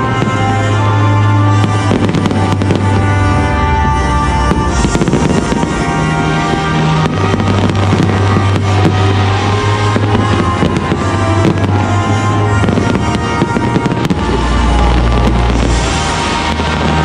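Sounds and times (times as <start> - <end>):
fireworks bangs and crackles: 0.0 - 17.0
loud music with bass line: 0.4 - 17.0.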